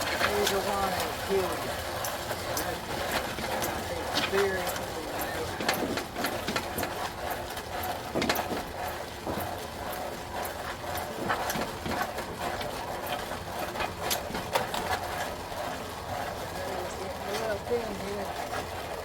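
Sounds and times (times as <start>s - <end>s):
concrete mixer running: 0.0s - 19.0s
gritty clicks and scrapes: 0.0s - 19.0s.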